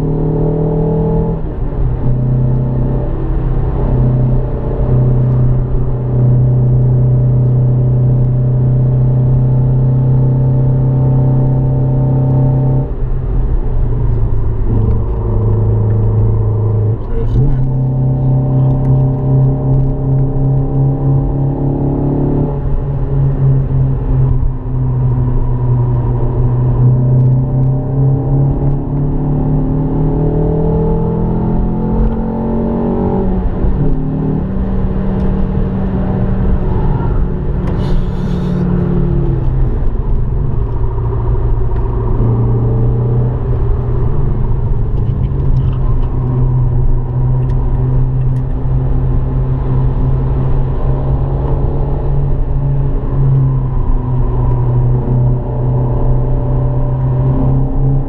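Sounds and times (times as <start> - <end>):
car engine accelerating: 0.0 - 58.0
tyre and road rumble: 11.5 - 58.0.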